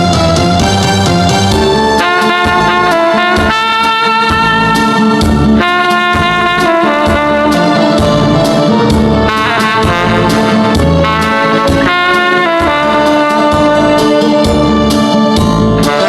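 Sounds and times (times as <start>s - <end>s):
backing track with bass and drums: 0.0s - 16.0s
tenor saxophone melody: 0.0s - 16.0s.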